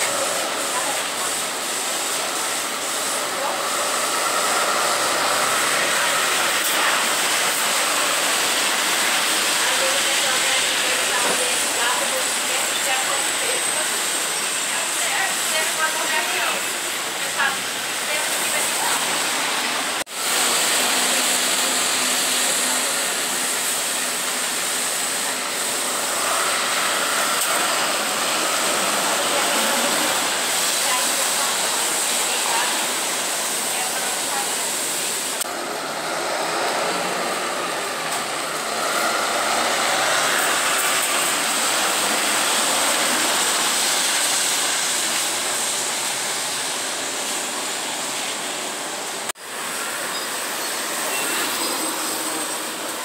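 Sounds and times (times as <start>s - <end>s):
tyres hissing on wet road: 0.0s - 53.0s.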